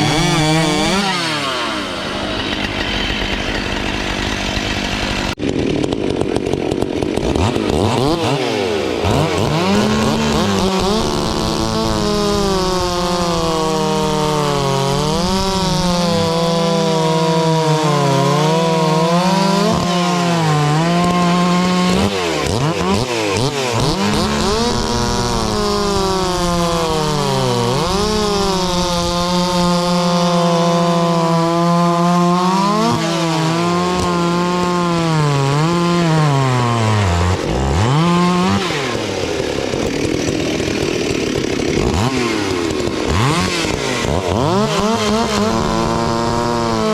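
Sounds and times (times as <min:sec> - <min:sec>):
chainsaw running at high revs: 0:00.0 - 0:46.9.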